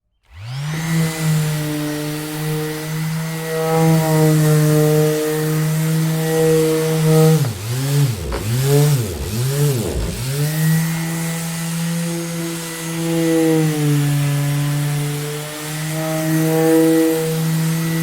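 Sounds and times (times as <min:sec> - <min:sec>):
electric orbital sander running: 0:00.3 - 0:18.0.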